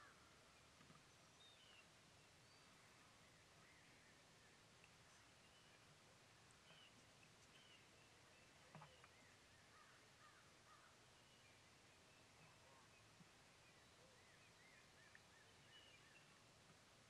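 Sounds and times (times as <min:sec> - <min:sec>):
faint bird chirps: 0:00.0 - 0:16.5.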